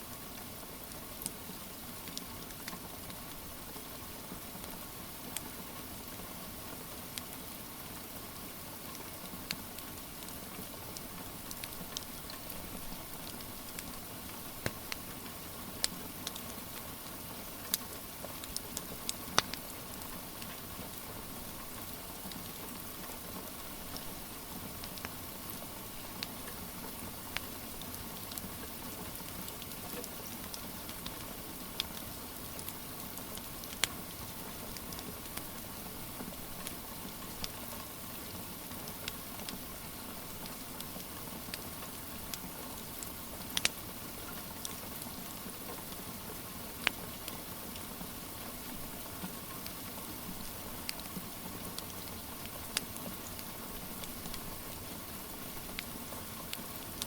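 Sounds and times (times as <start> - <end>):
steady rain: 0.0 - 57.0
wood fire crackling: 0.3 - 4.0, 7.0 - 57.0.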